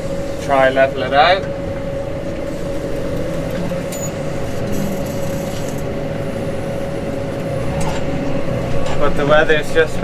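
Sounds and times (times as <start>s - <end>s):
constant hum: 0.0s - 10.0s
tractor engine running: 0.0s - 10.0s.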